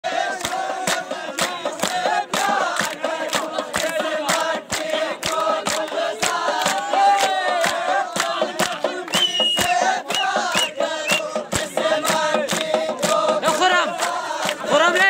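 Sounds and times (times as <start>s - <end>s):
group of men singing: 0.0s - 15.0s
hand clapping: 0.1s - 15.0s
drumming on plastic barrel: 0.5s - 15.0s.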